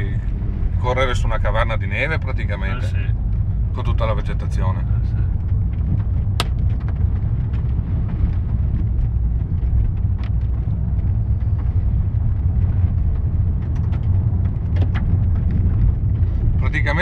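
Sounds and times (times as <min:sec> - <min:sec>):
car engine and tyres rumbling: 0:00.0 - 0:17.0
road ticks and knocks: 0:00.0 - 0:17.0.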